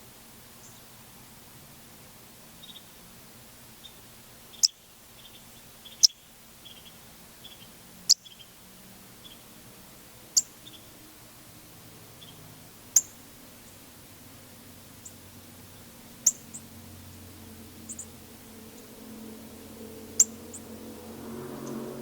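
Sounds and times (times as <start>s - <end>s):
songbird chirping: 0.6s - 1.0s, 2.6s - 22.0s.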